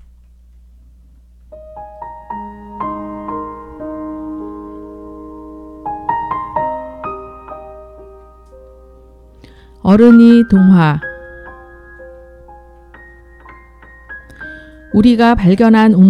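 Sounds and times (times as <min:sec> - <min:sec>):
gentle piano music: 0:01.4 - 0:16.0.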